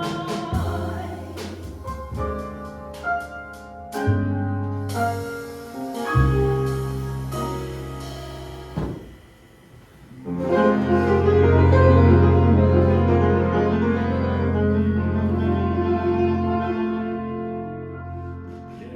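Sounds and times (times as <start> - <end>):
jazz band playing: 0.0 - 9.1, 10.2 - 18.8.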